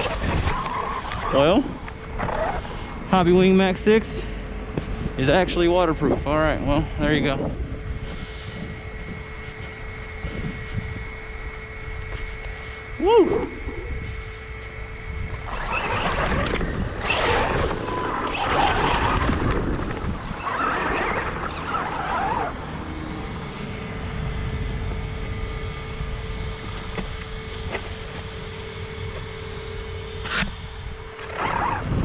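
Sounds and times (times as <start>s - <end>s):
rc car motor and tyres: 0.0s - 3.3s, 7.2s - 32.0s.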